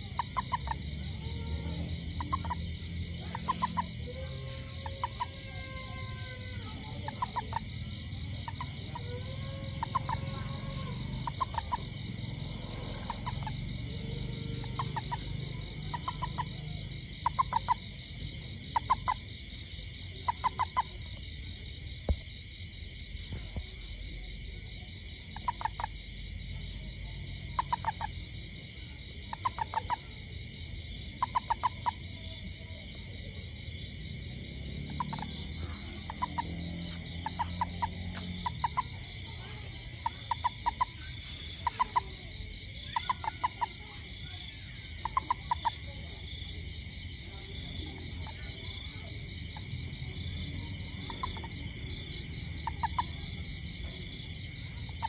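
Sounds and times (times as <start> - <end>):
high insect chorus: 0.0 - 55.0
toad chirping croaks: 0.0 - 55.0.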